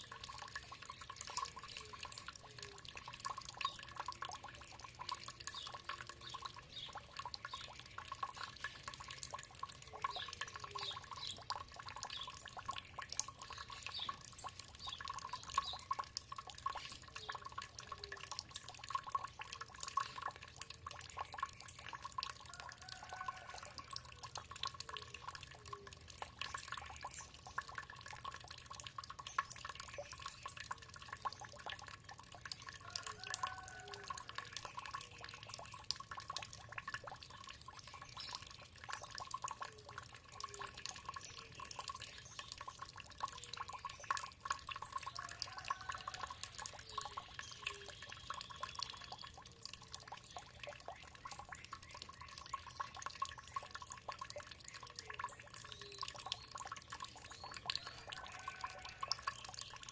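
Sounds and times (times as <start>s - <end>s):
water dripping and trickling: 0.0s - 59.9s.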